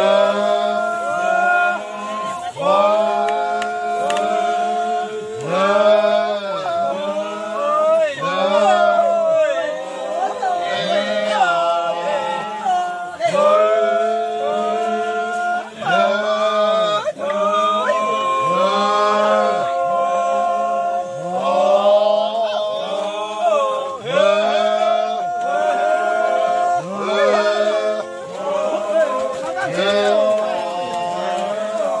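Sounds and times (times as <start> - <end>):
group of voices chanting: 0.0 - 32.0.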